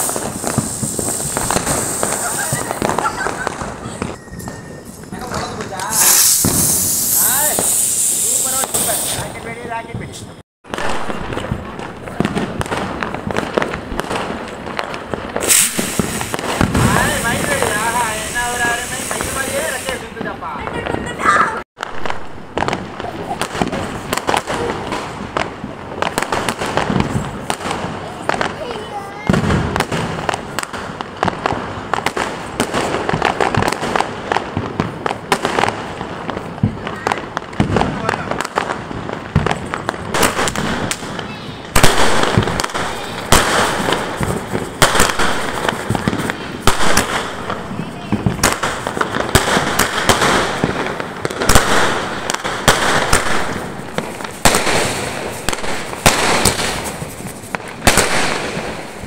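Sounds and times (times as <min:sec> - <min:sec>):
distant firecrackers crackling: 0:00.0 - 0:59.0
firework bangs: 0:00.0 - 0:59.0.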